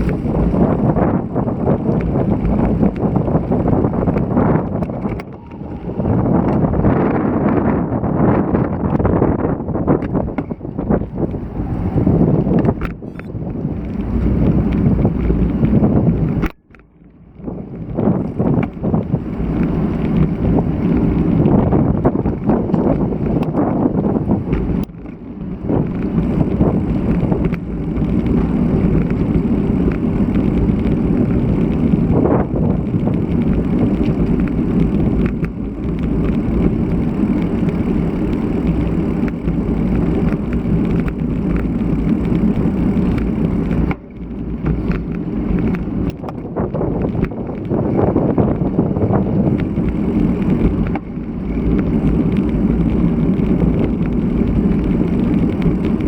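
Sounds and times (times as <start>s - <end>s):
bicycle tyres on road: 0.0s - 56.0s
wind rumble on microphone: 0.0s - 56.0s.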